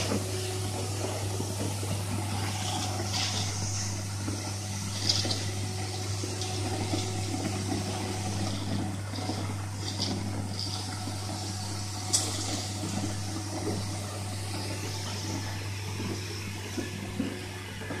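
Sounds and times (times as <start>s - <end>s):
insulation spraying from hose: 0.0s - 18.0s.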